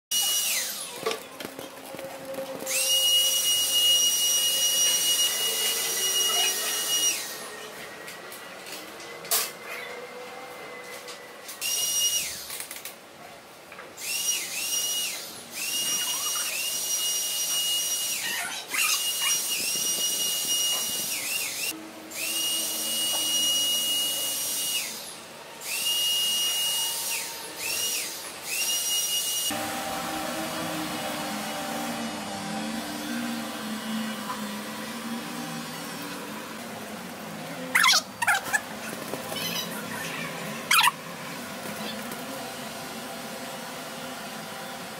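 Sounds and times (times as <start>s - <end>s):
electric sprayer whining and hissing: 0.1s - 1.2s, 1.9s - 12.5s, 14.0s - 37.7s, 40.4s - 44.9s.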